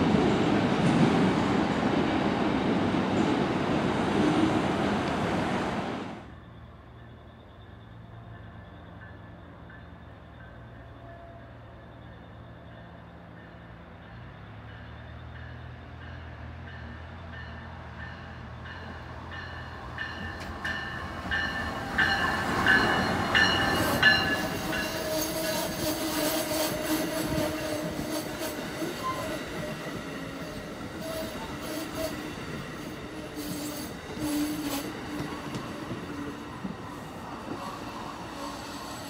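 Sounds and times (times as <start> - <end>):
passenger train rumbling past: 0.0 - 39.0.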